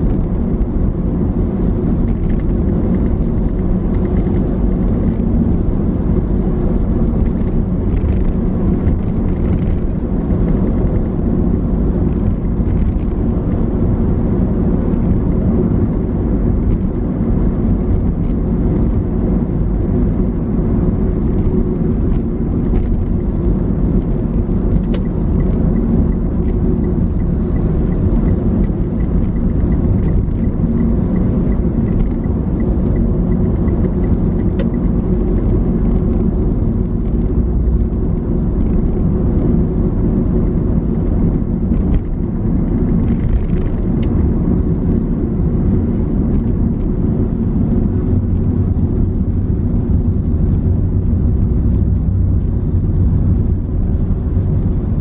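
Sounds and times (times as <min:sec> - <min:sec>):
low rumble of road traffic: 0:00.0 - 0:55.0.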